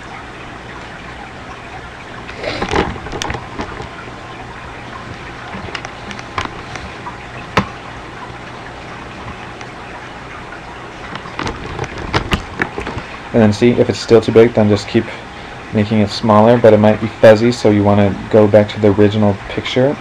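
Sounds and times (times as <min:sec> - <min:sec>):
microphone hiss and hum: 0:00.0 - 0:20.0.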